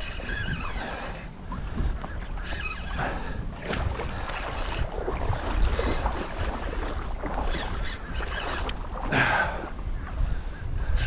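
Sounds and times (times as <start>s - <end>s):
water sloshing and splashing: 0.0s - 10.5s
wind buffeting microphone: 0.0s - 11.0s.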